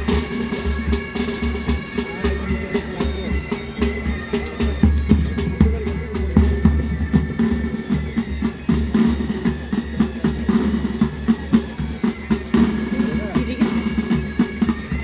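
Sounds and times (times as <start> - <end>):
bagpipes drone and melody: 0.0 - 15.0
snare and bass drums: 0.0 - 15.0.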